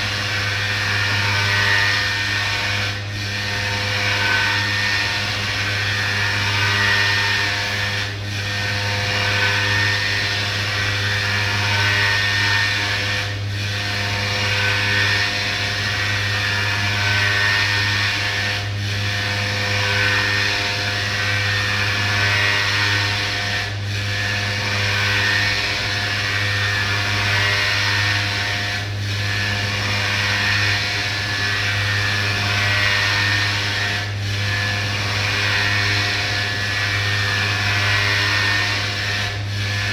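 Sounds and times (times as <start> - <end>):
milling machine spindle whine: 0.0 - 39.9.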